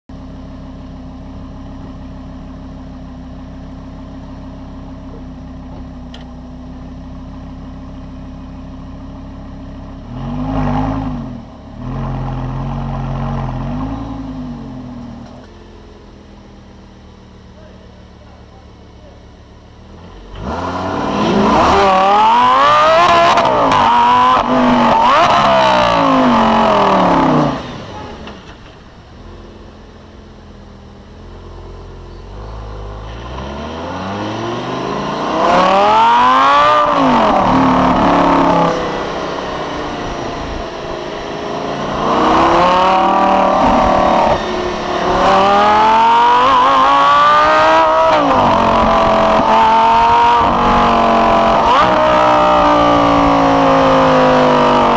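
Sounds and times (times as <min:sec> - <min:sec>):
sports car engine accelerating: 0:00.2 - 0:54.9.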